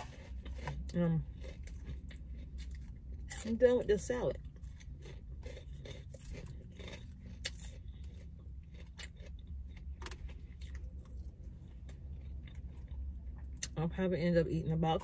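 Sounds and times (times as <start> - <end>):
lettuce being chewed: 0.0 - 13.8
steady low hum: 0.0 - 15.0.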